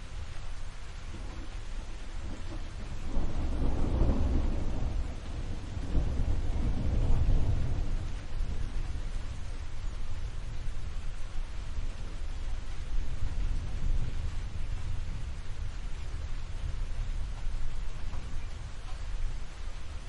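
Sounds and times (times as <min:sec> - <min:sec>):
rain hiss: 0:00.0 - 0:20.0
rolling thunder: 0:01.0 - 0:20.0.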